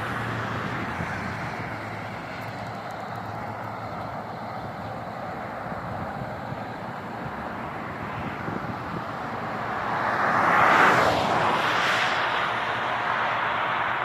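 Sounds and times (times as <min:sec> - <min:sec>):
highway traffic hum: 0:00.0 - 0:14.0
vehicle passing close by: 0:00.0 - 0:14.0.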